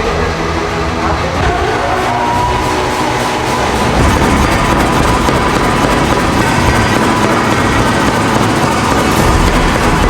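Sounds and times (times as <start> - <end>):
loud steady machine noise: 0.0 - 10.0.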